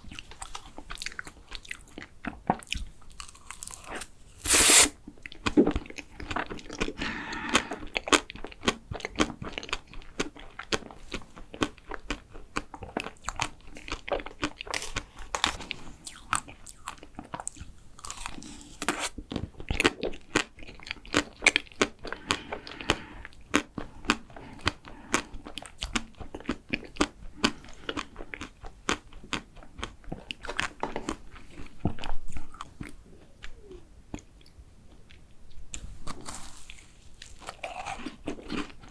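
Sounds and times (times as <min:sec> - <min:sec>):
chewing and biting ice cream cake: 0:00.0 - 0:04.2, 0:05.0 - 0:38.9.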